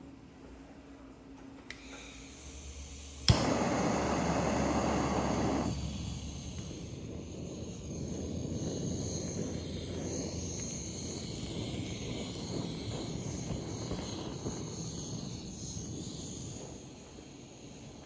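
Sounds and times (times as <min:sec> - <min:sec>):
gas torch flame hissing: 0:01.7 - 0:18.0.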